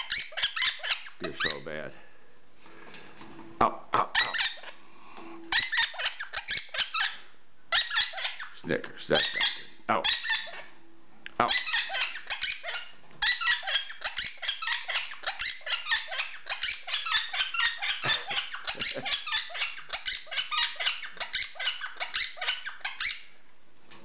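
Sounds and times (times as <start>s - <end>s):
bird squawking: 0.0s - 1.8s, 3.6s - 4.8s, 5.5s - 10.8s, 11.4s - 23.4s.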